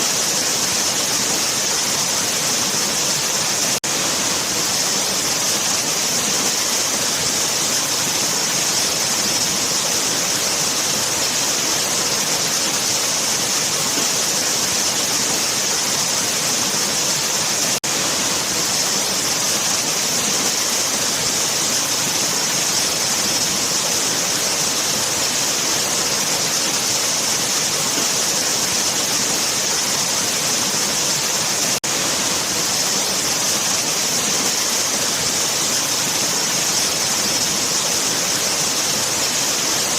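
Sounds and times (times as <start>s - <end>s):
waterfall rushing with hiss: 0.0s - 39.9s.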